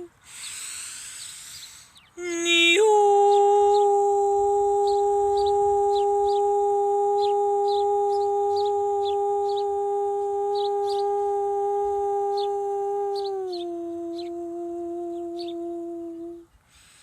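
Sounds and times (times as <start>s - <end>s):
small birds chirping: 0.0s - 17.0s
woman singing a long note: 2.2s - 16.5s.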